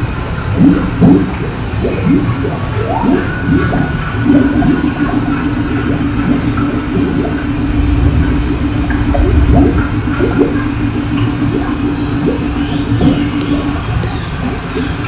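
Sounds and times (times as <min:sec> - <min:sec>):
dense rumbling noise: 0:00.0 - 0:15.0
low drone note: 0:00.0 - 0:15.0.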